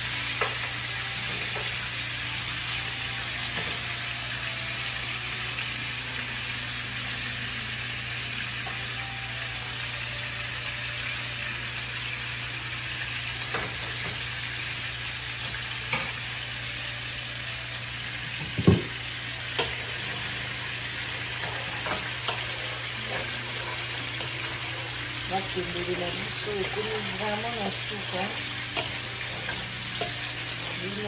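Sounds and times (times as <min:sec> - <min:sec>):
fish frying in oil: 0:00.0 - 0:31.0.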